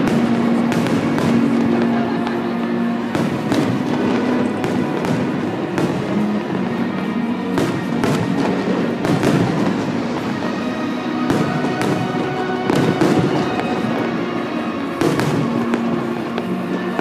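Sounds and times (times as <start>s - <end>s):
fireworks bangs and crackling: 0.0s - 17.0s
music playing: 0.0s - 17.0s.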